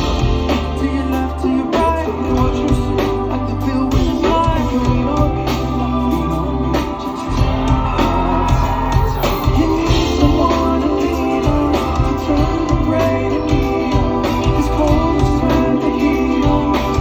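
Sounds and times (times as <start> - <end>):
bass: 0.0 - 17.0
person singing: 0.0 - 17.0
drum beat: 1.8 - 17.0.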